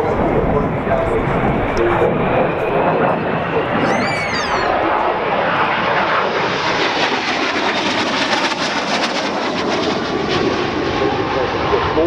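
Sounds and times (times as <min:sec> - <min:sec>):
jet engine running loud: 0:00.0 - 0:12.0.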